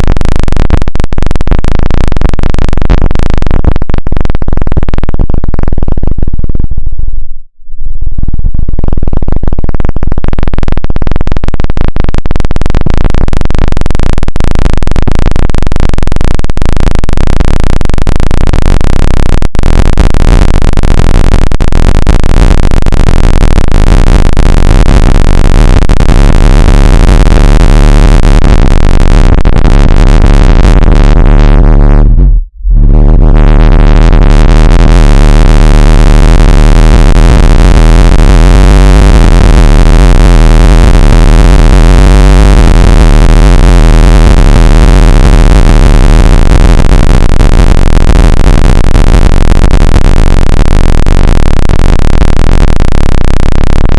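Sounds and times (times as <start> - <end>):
harsh electronic noise: 0.0 - 6.9, 8.2 - 53.9.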